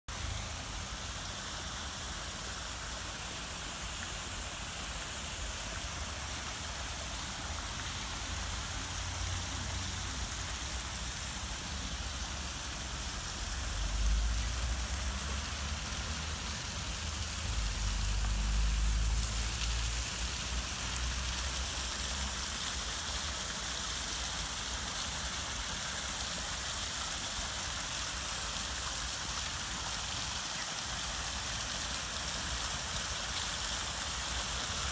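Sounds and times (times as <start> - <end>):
fountain spray and cascade: 0.1 - 34.9.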